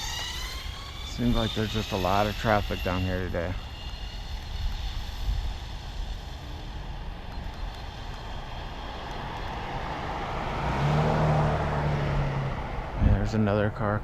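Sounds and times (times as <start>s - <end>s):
wind on microphone: 0.0s - 13.3s
car approaching: 0.0s - 14.0s.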